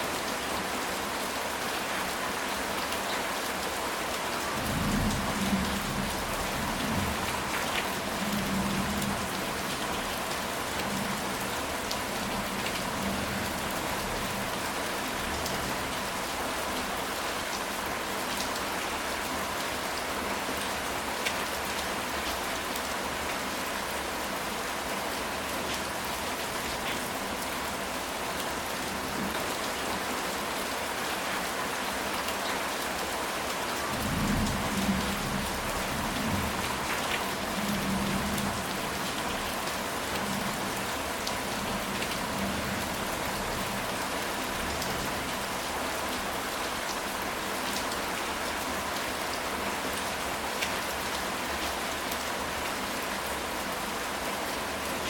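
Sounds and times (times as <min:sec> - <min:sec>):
rain on a tile roof: 0:00.0 - 0:55.0.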